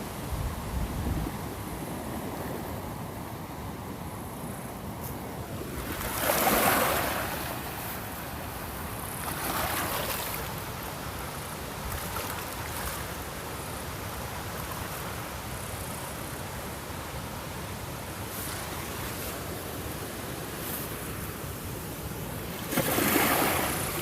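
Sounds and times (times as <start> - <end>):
ocean waves breaking on shore: 0.0 - 24.0
steady surf hiss: 0.0 - 24.0.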